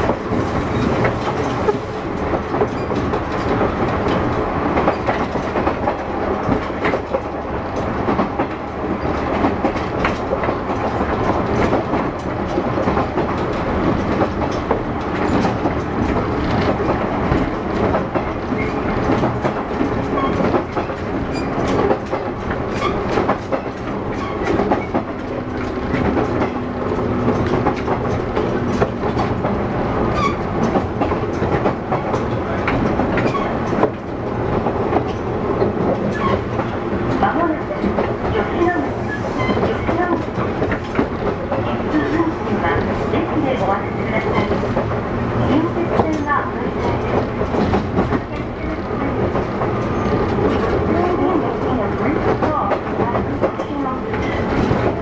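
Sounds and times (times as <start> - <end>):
train wheels and motors rumbling: 0.0 - 55.0
wheels clacking over rail joints: 0.0 - 55.0.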